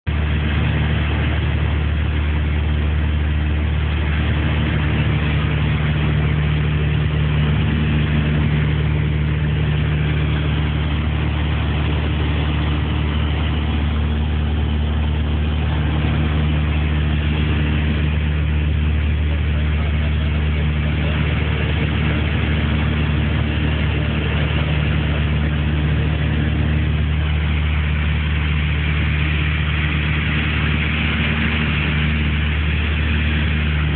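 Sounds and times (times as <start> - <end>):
propeller plane engines droning: 0.1 - 33.9.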